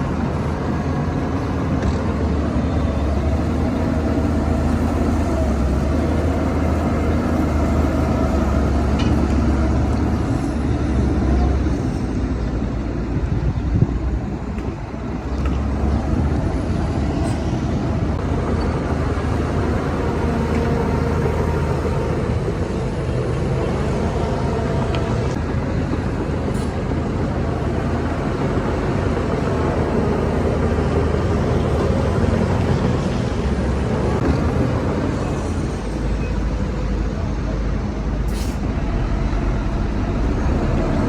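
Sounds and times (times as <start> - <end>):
heavy diesel machinery rumbling: 0.0 - 41.0.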